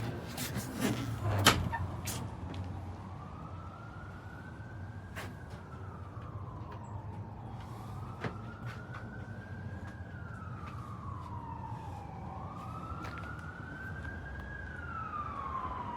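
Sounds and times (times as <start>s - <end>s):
emergency siren wailing: 0.0s - 15.9s.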